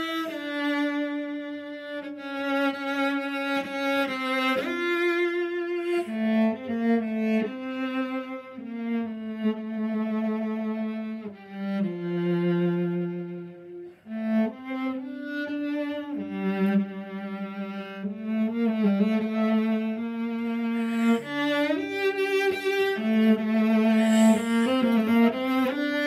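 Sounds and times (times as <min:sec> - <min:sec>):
cello playing slow melody: 0:00.0 - 0:26.0.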